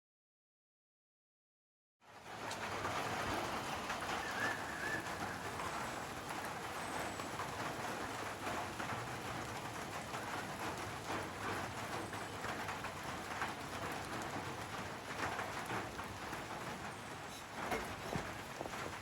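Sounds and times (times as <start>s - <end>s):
steady rain falling: 2.0s - 19.0s.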